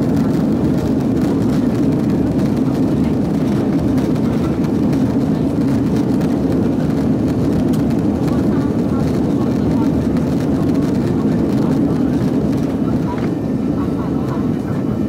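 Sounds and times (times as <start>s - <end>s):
airplane cabin engine and airflow noise: 0.0s - 15.0s.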